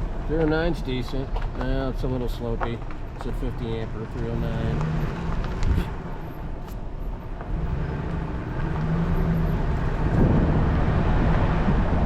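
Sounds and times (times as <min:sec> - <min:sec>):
low engine hum: 0:00.0 - 0:12.0
road rumble: 0:00.0 - 0:12.0.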